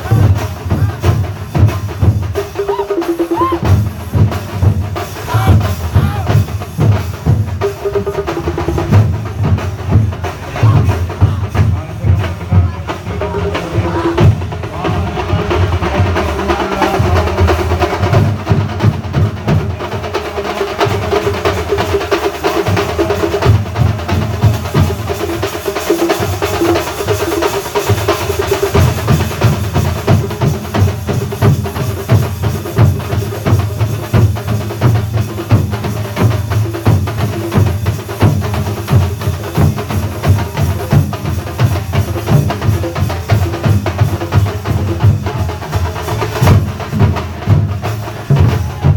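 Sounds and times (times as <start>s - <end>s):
drum ensemble playing fast rhythm: 0.0s - 48.9s.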